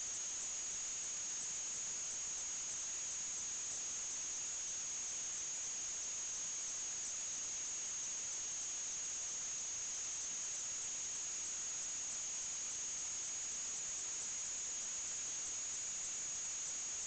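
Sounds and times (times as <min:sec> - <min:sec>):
electronic hiss: 0:00.0 - 0:17.0.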